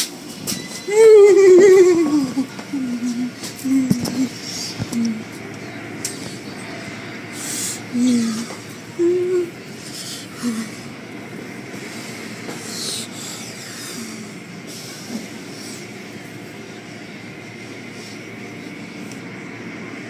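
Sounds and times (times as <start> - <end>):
car wash machinery humming: 0.0 - 20.0.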